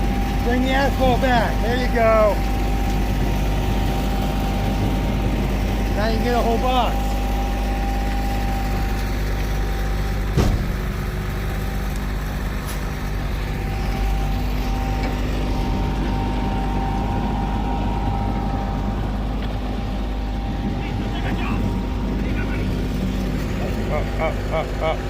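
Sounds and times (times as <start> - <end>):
diesel engines running: 0.0 - 25.0.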